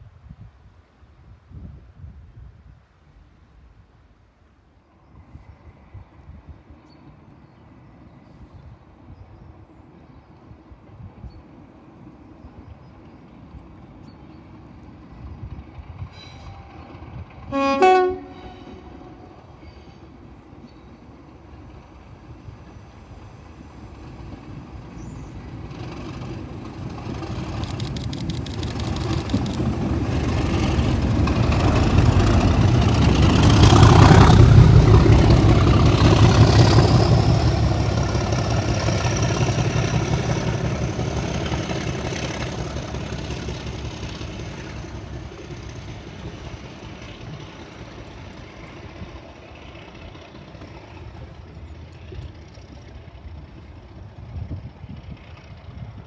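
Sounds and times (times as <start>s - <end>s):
diesel locomotives passing: 4.9s - 56.0s.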